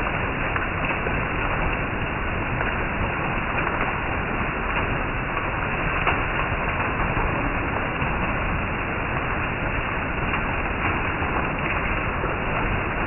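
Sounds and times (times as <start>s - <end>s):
heavy rain on leaves and roof: 0.0s - 13.0s
louder raindrops: 0.0s - 13.0s.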